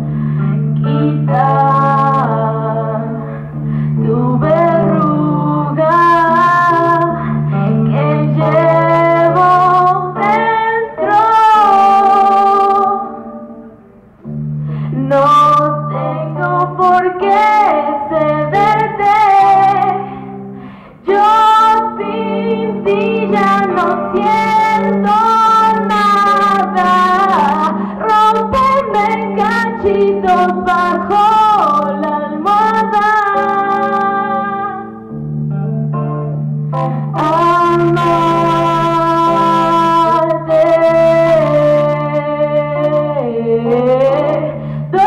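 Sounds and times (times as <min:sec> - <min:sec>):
guitar accompaniment: 0:00.0 - 0:45.0
woman singing pop ballad: 0:00.4 - 0:13.4, 0:14.9 - 0:20.2, 0:21.0 - 0:35.0, 0:37.0 - 0:45.0.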